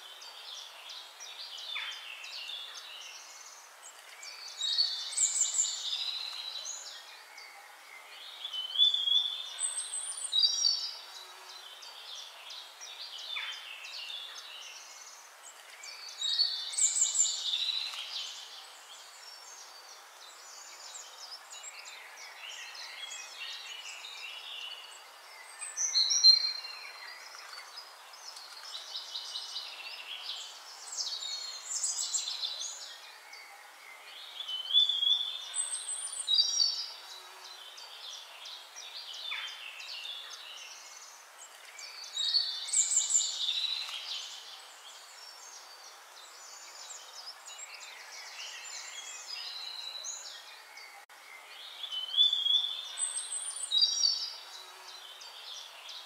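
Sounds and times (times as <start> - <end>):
birds chirping and trilling: 0.0 - 56.0
faint hiss: 0.0 - 56.0.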